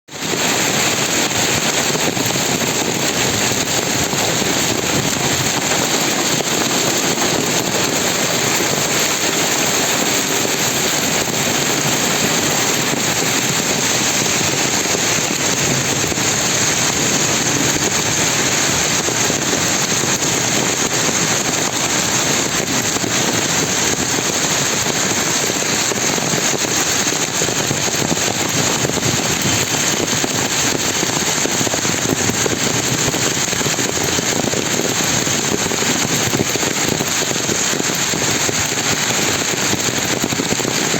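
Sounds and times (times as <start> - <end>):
rain pouring: 0.1 - 40.9.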